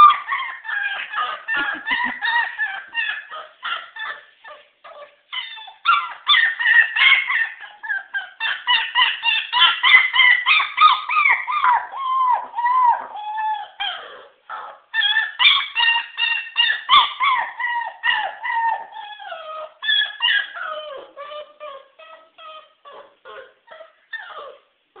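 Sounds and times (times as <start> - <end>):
puppy whining and yelping: 0.0 - 25.0.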